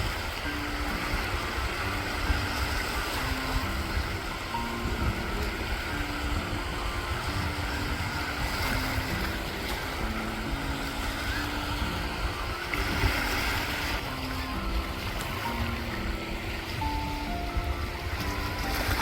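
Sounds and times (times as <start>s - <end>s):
sea waves washing on shore: 0.0s - 19.0s
soft background melody: 0.0s - 19.0s
wind buffeting microphone: 0.0s - 19.0s.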